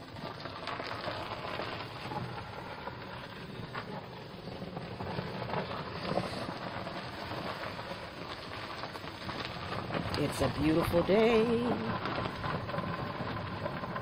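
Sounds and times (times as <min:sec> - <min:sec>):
golf cart driving on dirt: 0:00.0 - 0:14.0
wind buffeting microphone: 0:01.0 - 0:14.0.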